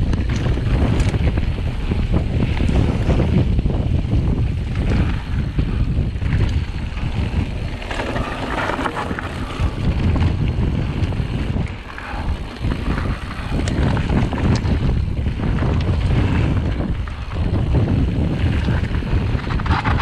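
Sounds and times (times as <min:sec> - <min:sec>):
low rumble: 0:00.0 - 0:20.0
tyres crackling on gravel: 0:00.0 - 0:20.0
wind buffeting microphone: 0:00.0 - 0:20.0.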